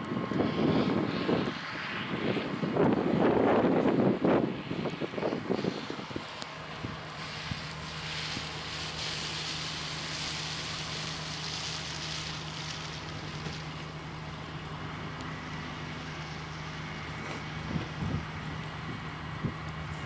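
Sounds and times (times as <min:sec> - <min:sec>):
car tyres hissing through slush: 0:00.0 - 0:20.0
snowplow engine drone: 0:00.0 - 0:20.0.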